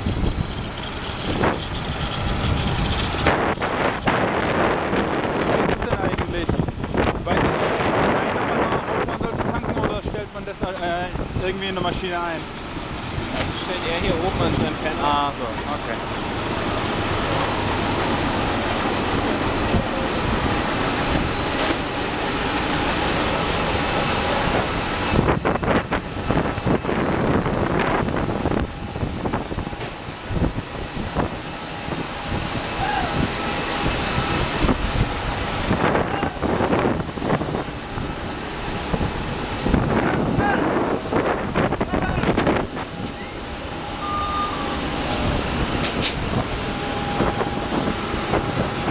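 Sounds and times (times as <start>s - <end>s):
wind gusts buffeting microphone: 0.0s - 44.0s, 44.6s - 48.9s
rushing noise of airport equipment: 0.0s - 48.9s.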